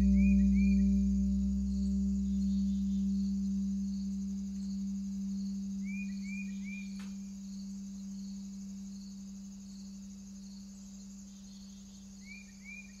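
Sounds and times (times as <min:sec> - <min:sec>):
low ambient drone: 0:00.0 - 0:11.3
cricket-like chirping: 0:00.0 - 0:13.0.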